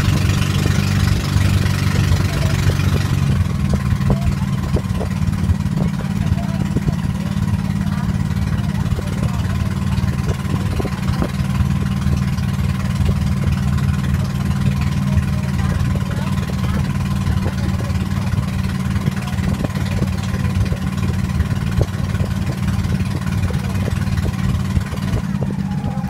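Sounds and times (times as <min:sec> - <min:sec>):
motorboat engine droning: 0:00.0 - 0:26.0.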